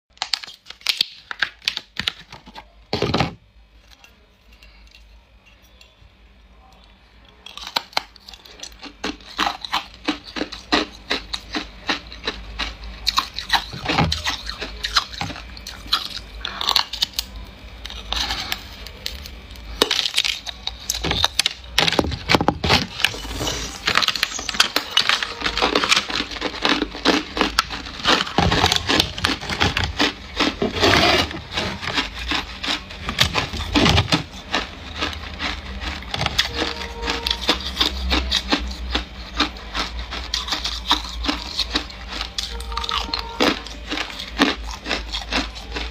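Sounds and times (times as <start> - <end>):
ice crunching while chewed: 7.3 - 45.9.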